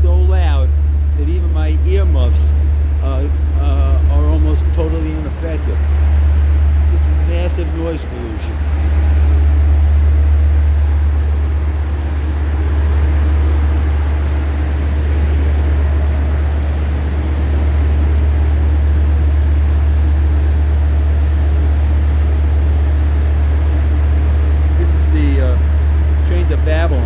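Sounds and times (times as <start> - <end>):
diesel locomotive engine drone: 0.0 - 27.0.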